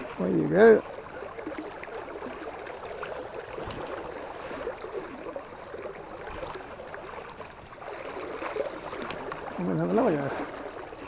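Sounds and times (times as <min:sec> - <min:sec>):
river water gurgling: 0:00.0 - 0:11.0.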